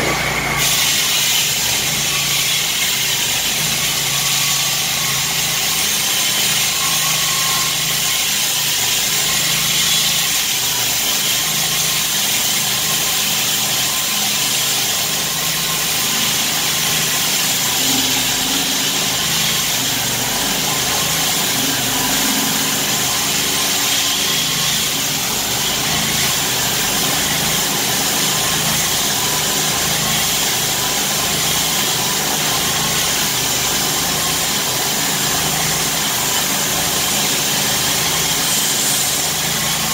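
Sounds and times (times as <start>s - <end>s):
concrete saw cutting: 0.0s - 39.9s.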